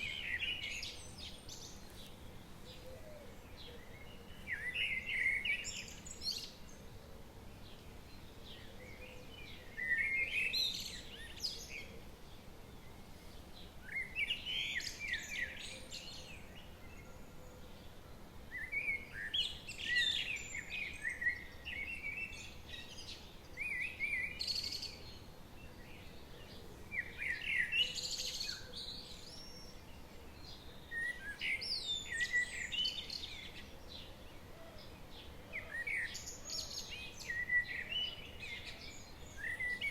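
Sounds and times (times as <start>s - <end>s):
faint background hiss: 0.0s - 39.9s
songbird singing: 0.0s - 39.9s.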